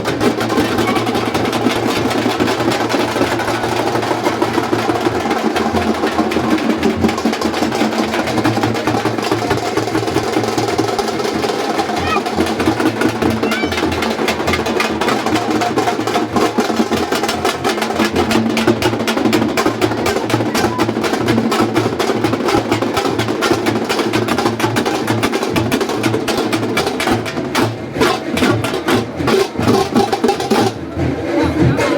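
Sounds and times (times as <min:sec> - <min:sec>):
fast procession drumming: 0:00.0 - 0:31.9.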